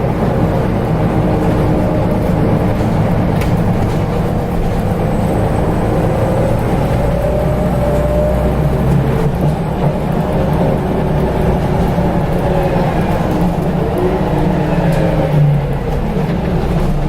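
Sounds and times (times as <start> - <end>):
bus diesel engine rumble: 0.0 - 17.0
gearbox whine: 0.1 - 17.0.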